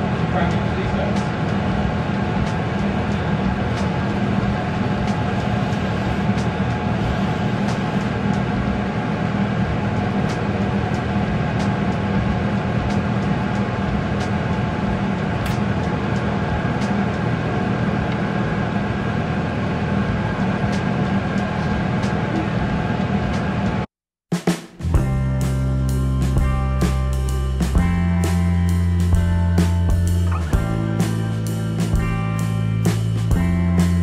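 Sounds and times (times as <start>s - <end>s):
machine low drone: 0.0s - 23.8s, 24.8s - 34.0s.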